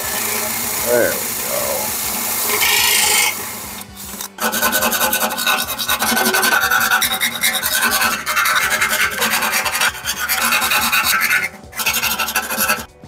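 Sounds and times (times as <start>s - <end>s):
deburring tool scraping metal: 0.0s - 13.0s.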